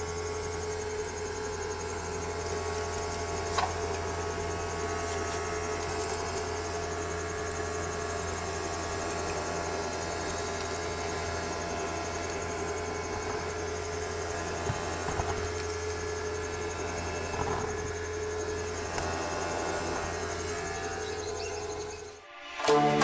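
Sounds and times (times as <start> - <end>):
small vacuum motor humming: 0.0 - 23.0.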